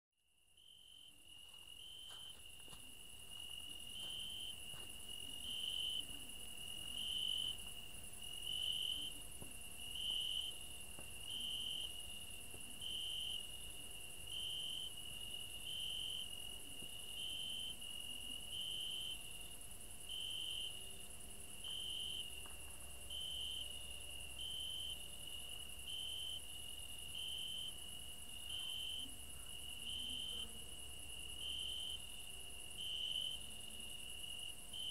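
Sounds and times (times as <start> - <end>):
crickets chirping: 0.3 - 34.9.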